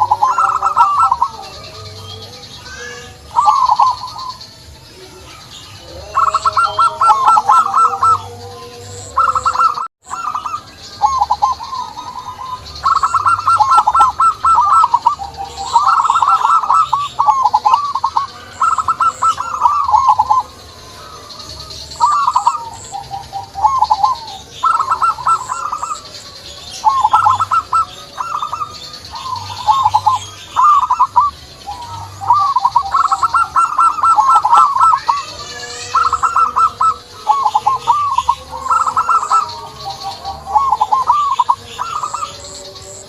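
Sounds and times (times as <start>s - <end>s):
doves cooing: 0.0s - 43.0s
small birds chirping: 0.0s - 43.0s.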